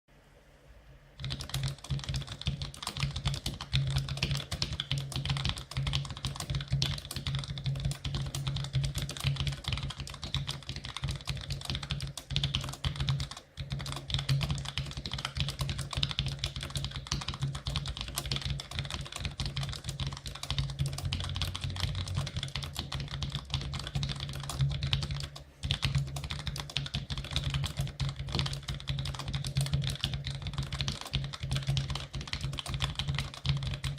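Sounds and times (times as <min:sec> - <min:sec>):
fast keyboard typing: 0:01.2 - 0:33.9.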